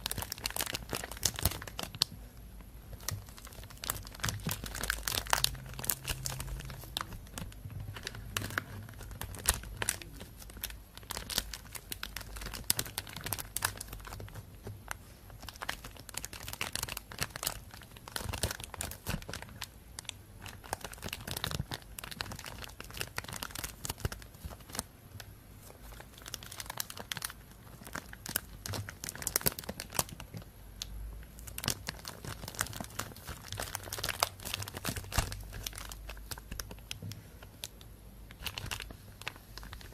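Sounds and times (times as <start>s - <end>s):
plastic bag crinkling: 0.0s - 2.1s, 2.9s - 24.9s, 25.6s - 39.9s.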